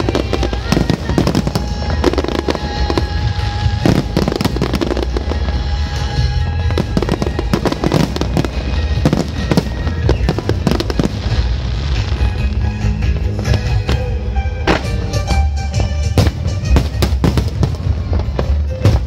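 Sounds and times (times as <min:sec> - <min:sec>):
loud music: 0:00.0 - 0:19.0.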